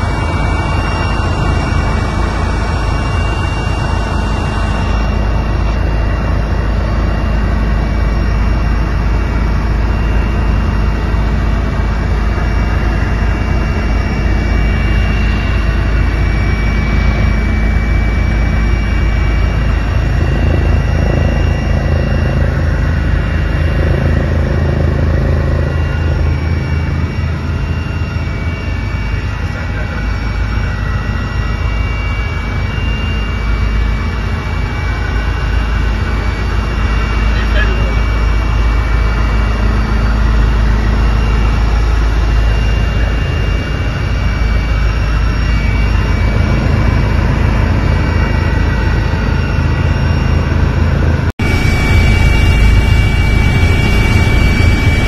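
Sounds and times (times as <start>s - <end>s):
helicopter engine and rotor drone: 0.0s - 55.0s
thin high whine: 0.0s - 55.0s.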